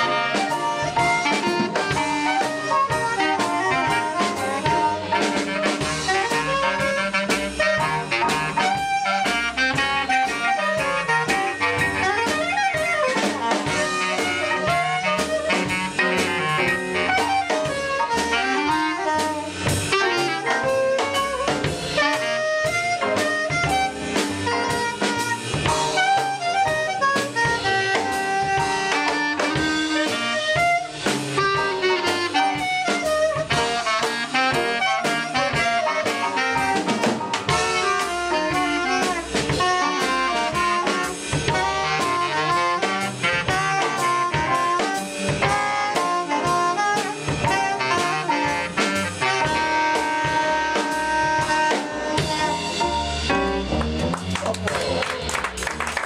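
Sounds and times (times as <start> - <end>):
double bass: 0.0 - 55.8
clarinet: 0.0 - 56.0
drum kit with cymbals: 0.0 - 56.0
piano: 0.0 - 56.0
saxophone: 0.0 - 56.0.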